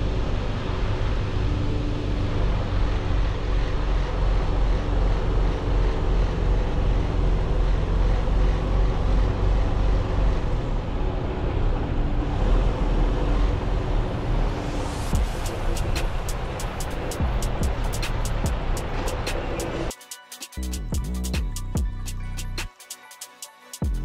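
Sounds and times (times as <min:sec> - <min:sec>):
truck engine low rumble: 0:00.0 - 0:19.9.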